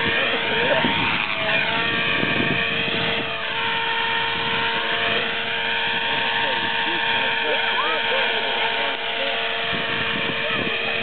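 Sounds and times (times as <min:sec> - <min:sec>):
rc helicopter motor whine: 0:00.0 - 0:11.0
rotor noise: 0:00.0 - 0:11.0.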